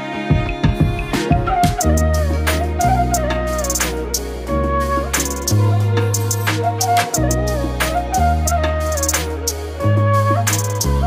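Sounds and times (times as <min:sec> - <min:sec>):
background music with bass and percussion: 0:00.3 - 0:11.0.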